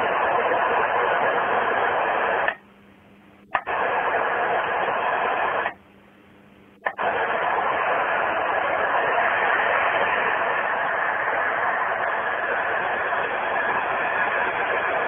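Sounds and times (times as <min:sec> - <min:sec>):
faint low hum: 0:00.0 - 0:15.0
radio static hiss: 0:00.0 - 0:15.0.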